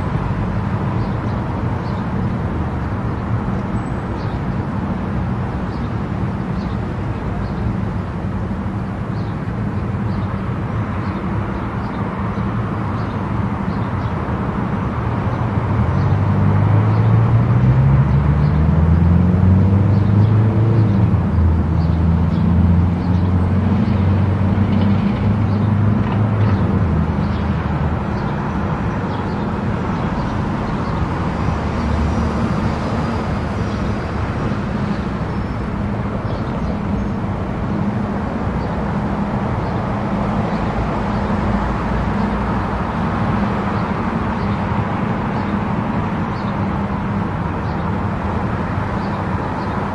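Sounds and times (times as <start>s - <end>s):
tyre and road noise: 0.0s - 49.9s.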